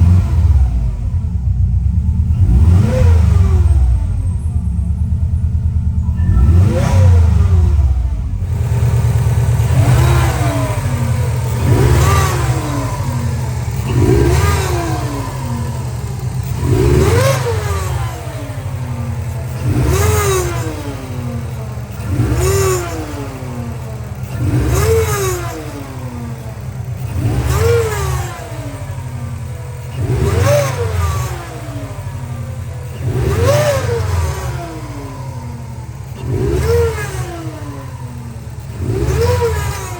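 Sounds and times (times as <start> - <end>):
engine revved in short blips: 2.2 - 39.9.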